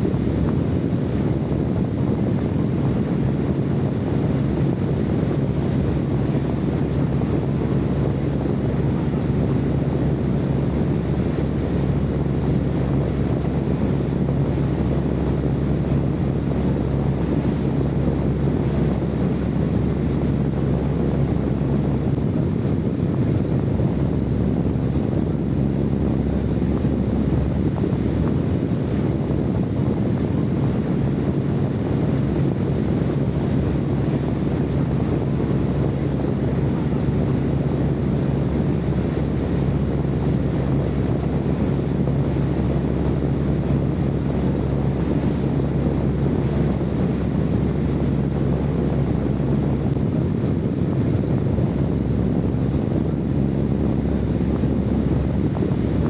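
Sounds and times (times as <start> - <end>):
faint steady hum: 0.0 - 56.0
low rumbling noise: 0.0 - 56.0.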